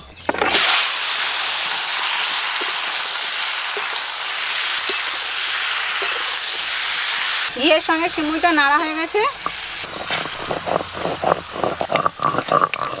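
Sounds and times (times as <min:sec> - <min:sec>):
chicken sizzling in hot oil: 0:00.3 - 0:13.0.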